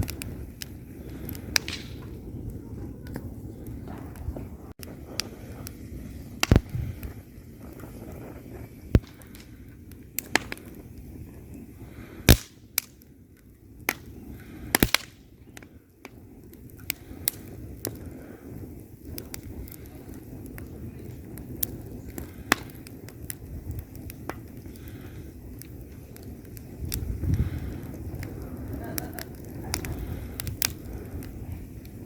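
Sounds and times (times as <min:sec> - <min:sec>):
low rumble of flames: 0:00.0 - 0:32.0
wood fire crackling: 0:00.0 - 0:32.0.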